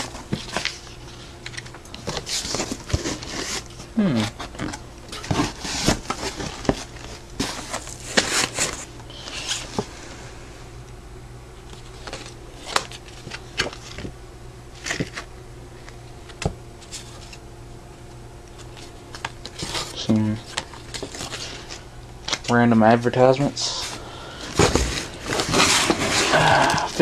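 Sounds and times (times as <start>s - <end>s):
cardboard and paper crinkling: 0.0s - 9.9s, 11.7s - 14.1s, 14.8s - 17.4s, 18.6s - 22.5s, 23.7s - 27.0s
faint steady hum: 0.0s - 27.0s.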